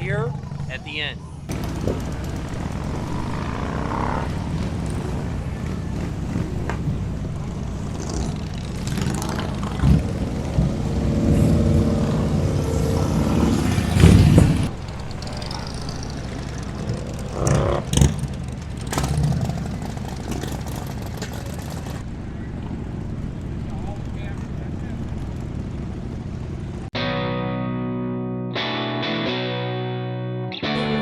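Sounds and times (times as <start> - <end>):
motorcycle engines running: 0.0 - 27.0.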